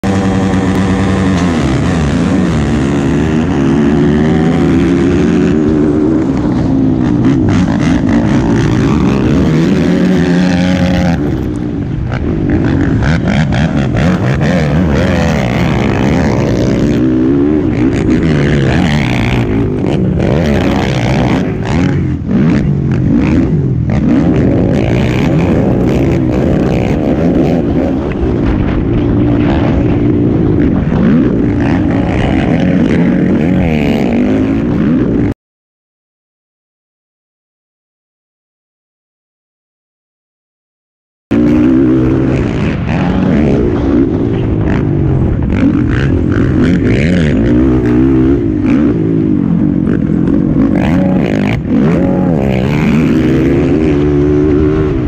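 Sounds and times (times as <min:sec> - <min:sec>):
quad engine revving: 0:00.0 - 0:35.3, 0:41.3 - 0:55.0
rough bangs and buffeting: 0:00.0 - 0:35.3, 0:41.3 - 0:55.0.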